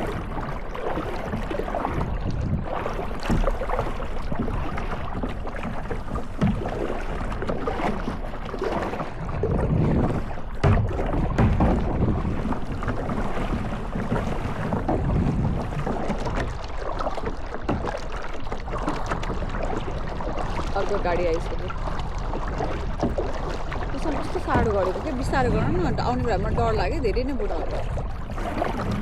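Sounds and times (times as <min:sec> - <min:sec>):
wind buffeting microphone: 0:00.0 - 0:18.0, 0:18.7 - 0:29.0
moving water: 0:00.0 - 0:29.0.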